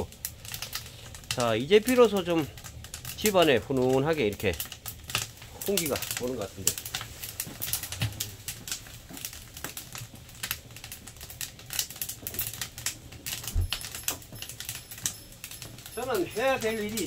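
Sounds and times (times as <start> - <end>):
wood stove fire crackling: 0.0 - 17.0.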